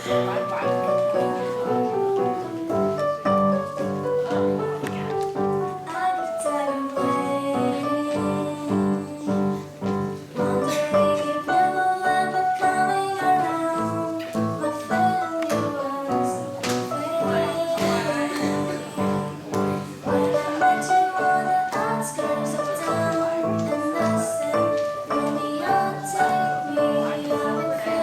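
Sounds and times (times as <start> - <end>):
piano-led pop song with singing: 0.0 - 28.0.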